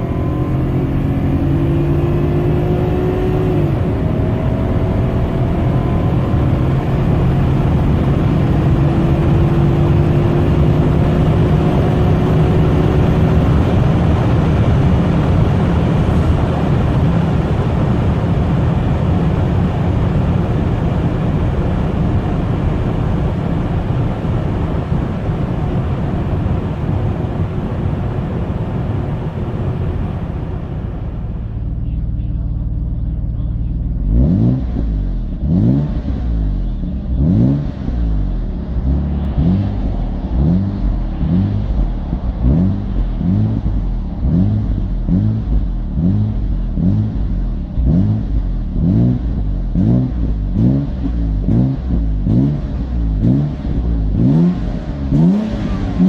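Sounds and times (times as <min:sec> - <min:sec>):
car engine accelerating hard: 0:00.0 - 0:56.0
road and engine noise: 0:00.0 - 0:56.0.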